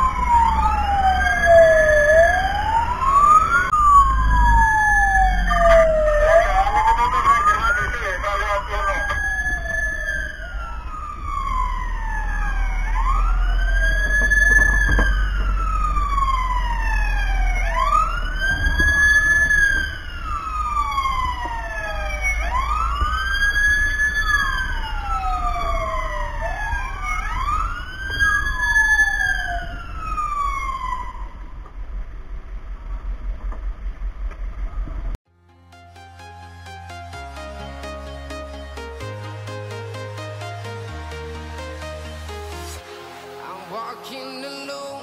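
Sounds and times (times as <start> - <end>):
fire truck siren wailing: 0.0 - 31.6, 35.7 - 45.0.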